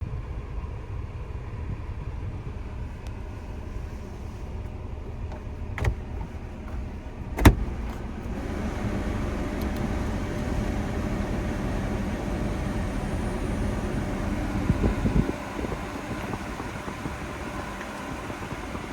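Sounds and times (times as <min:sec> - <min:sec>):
fan blowing with faint whine: 0:00.0 - 0:18.9
truck engine rumbling: 0:00.2 - 0:18.9.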